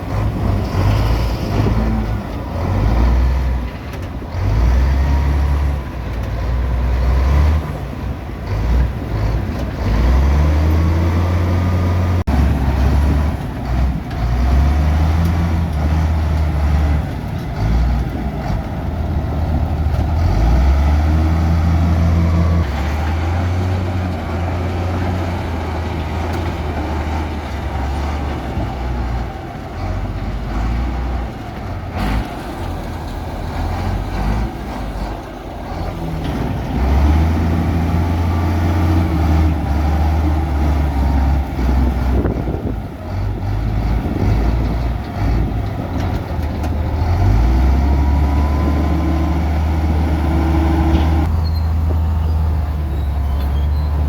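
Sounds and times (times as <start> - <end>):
diesel machinery engine revving: 0.0 - 54.0.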